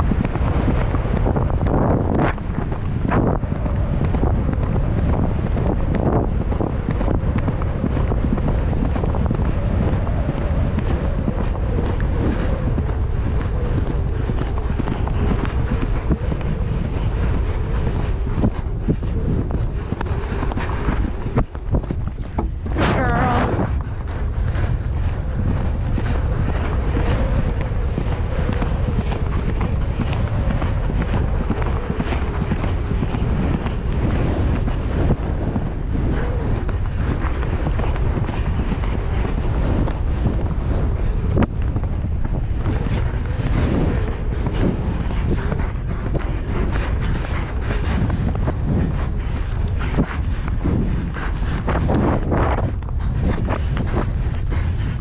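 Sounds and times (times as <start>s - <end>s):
horse hoofbeats on grass: 0.0s - 55.0s
wind buffeting microphone: 0.0s - 55.0s.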